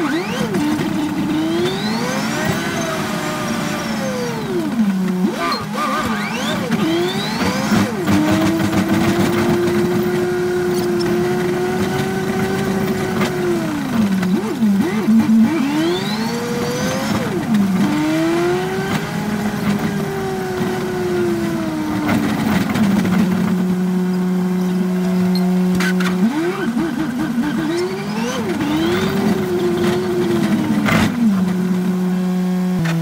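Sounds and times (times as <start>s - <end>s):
bus engine revving: 0.0s - 33.0s.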